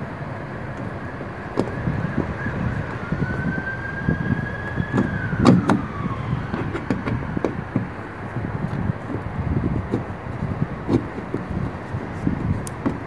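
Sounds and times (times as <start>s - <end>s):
high steady whine: 0.0s - 13.0s.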